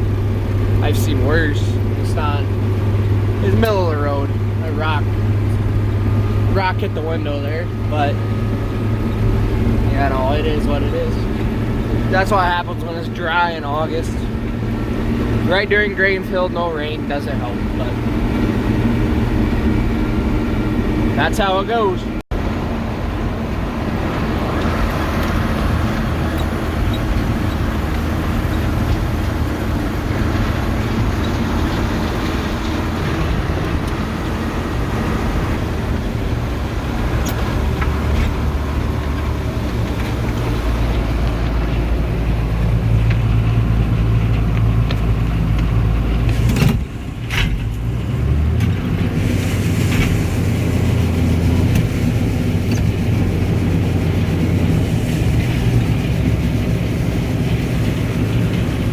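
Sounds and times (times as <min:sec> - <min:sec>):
tractor engine running under load: 0:00.0 - 0:58.9.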